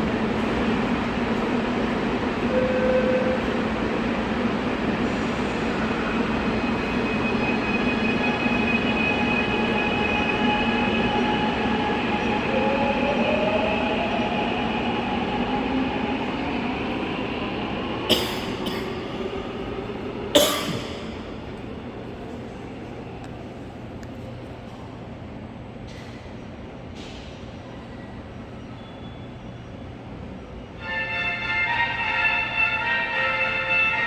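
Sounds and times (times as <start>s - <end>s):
subway train whining: 0.0s - 34.0s.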